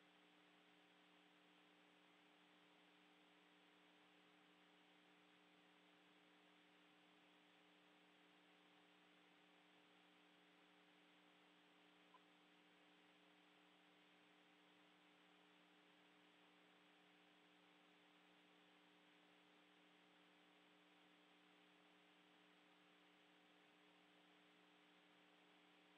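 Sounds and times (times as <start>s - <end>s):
faint hum and hiss: 0.0s - 25.9s.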